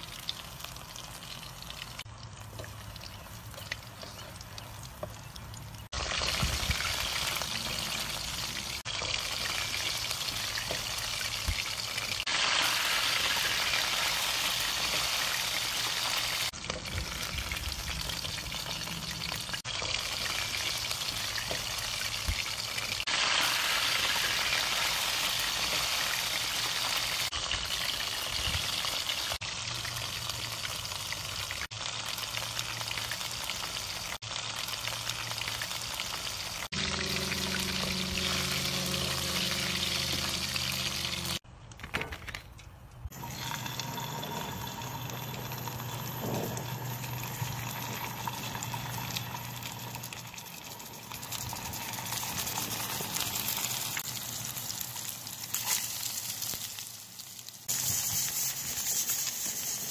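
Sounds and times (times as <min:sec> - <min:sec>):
oil sizzling and bubbling: 0:00.0 - 0:42.2, 0:43.0 - 0:59.9.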